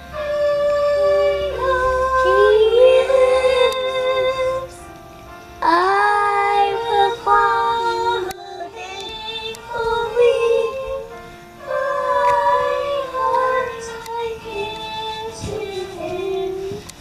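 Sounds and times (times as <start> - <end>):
woman and children singing hymn: 0.0 - 4.9, 5.6 - 17.0.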